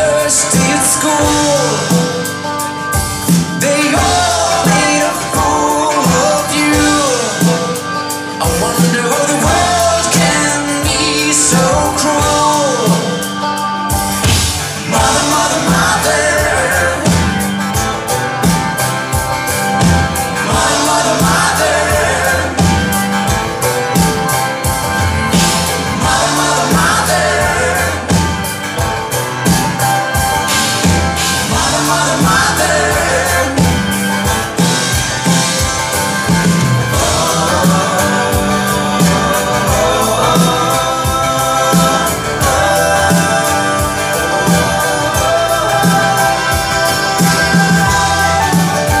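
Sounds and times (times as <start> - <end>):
person singing: 0.0 - 49.0
rock band playing: 0.0 - 49.0.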